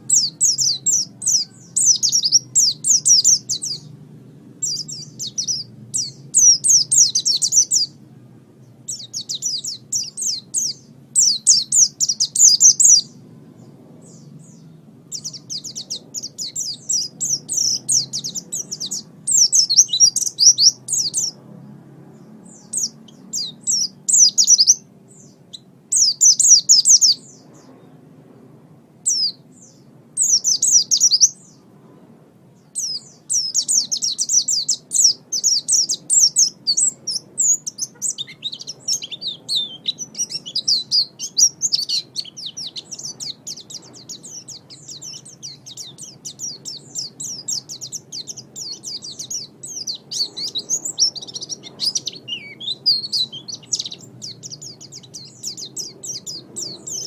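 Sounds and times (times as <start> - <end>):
bird twittering song: 0.0 - 28.0, 29.0 - 31.7, 32.6 - 57.0.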